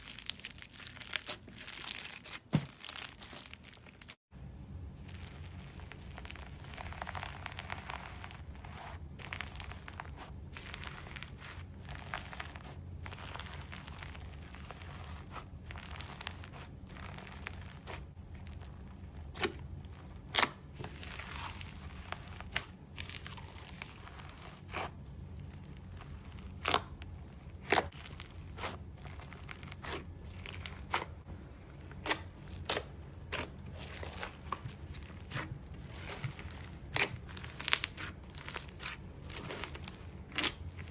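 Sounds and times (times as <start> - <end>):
crunchy slime crackling and popping: 0.0 - 4.2, 4.9 - 40.9.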